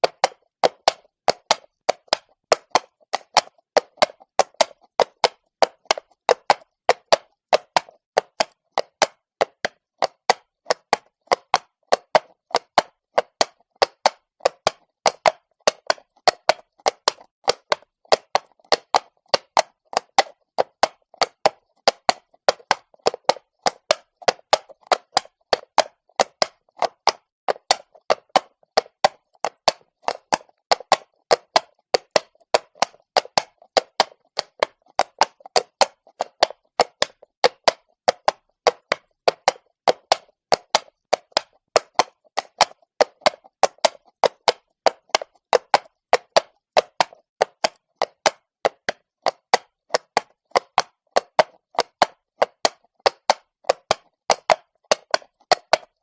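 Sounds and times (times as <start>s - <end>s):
horse hooves on stone: 0.0s - 56.0s.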